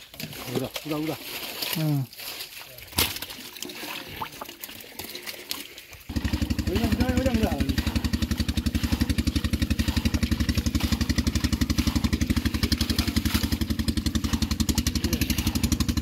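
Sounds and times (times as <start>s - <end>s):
pump engine chugging: 0.0s - 16.0s.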